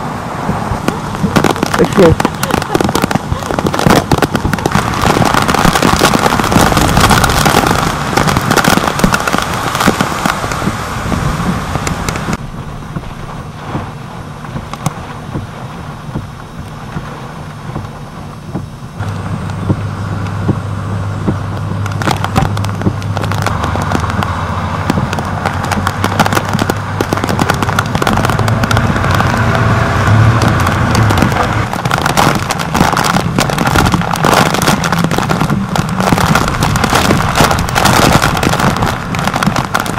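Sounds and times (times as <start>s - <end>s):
raindrops rattling on camera housing: 0.0s - 39.9s
storm rain: 0.0s - 39.9s
truck engine idling: 0.0s - 39.9s.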